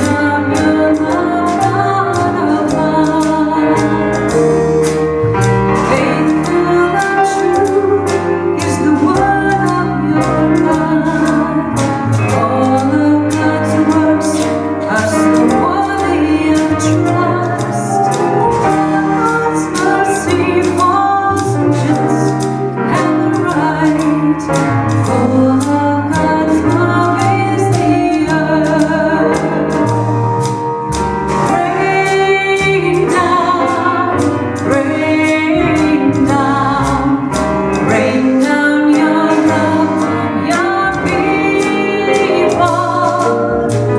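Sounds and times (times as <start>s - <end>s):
woman singing a hymn: 0.0s - 4.0s, 5.9s - 29.6s, 31.4s - 43.9s
live band playing: 0.0s - 43.9s.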